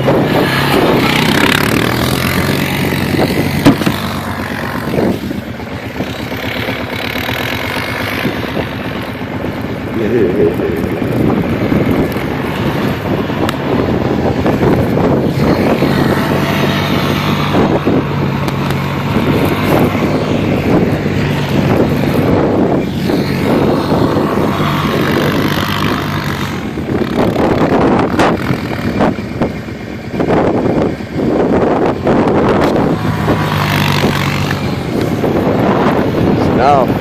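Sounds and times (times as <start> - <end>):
quad engine running: 0.0 - 37.0
wind on microphone: 0.0 - 37.0.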